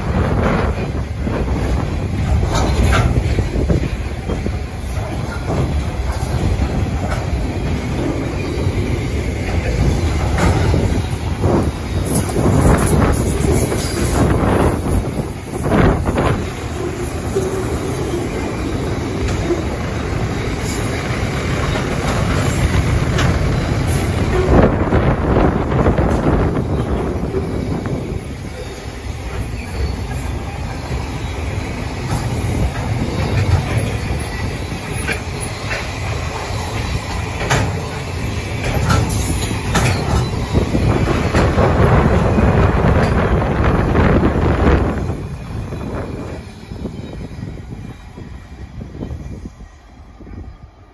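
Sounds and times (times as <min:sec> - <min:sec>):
freight train wheels rumbling on rails: 0:00.0 - 0:50.9
wheels clacking on rails: 0:00.0 - 0:50.9.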